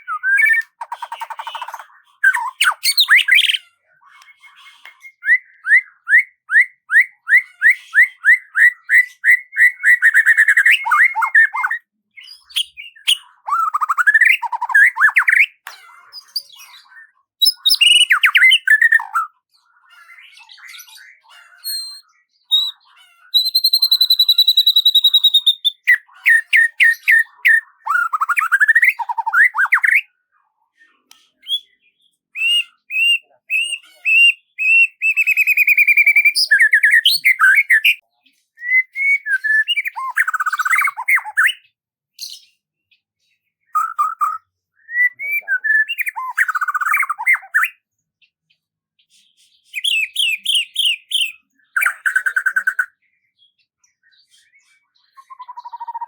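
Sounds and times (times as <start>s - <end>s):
songbird singing: 0.0s - 30.1s, 30.9s - 43.1s, 43.7s - 48.7s, 49.6s - 56.0s.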